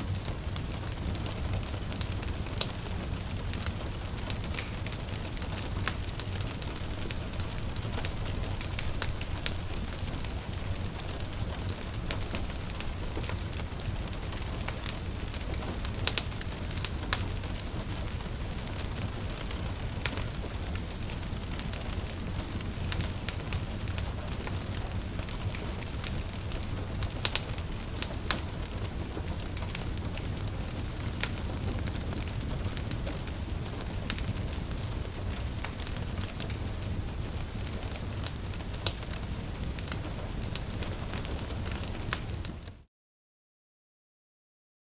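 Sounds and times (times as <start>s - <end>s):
wood fire crackling and popping: 0.0s - 42.8s
gentle rain pattering: 0.0s - 42.9s.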